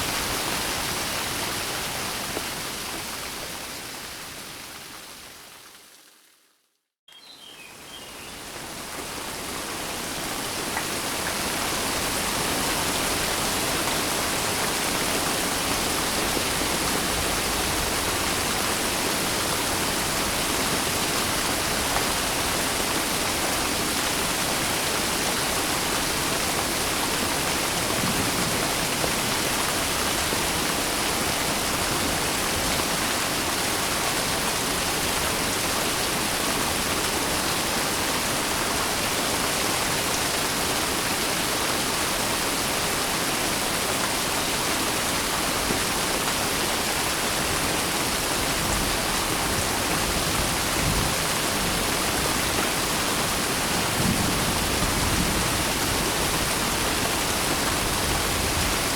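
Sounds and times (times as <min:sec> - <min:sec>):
dense rainfall hiss: 0:07.2 - 0:58.9.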